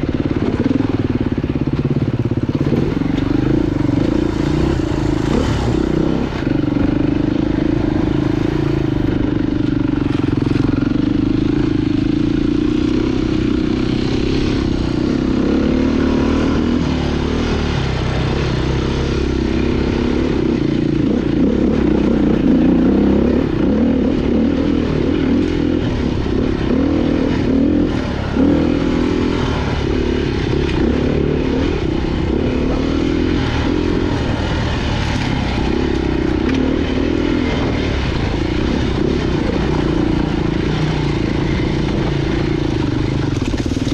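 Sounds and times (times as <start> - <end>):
off-road motorcycle engine revving: 0.0 - 43.9.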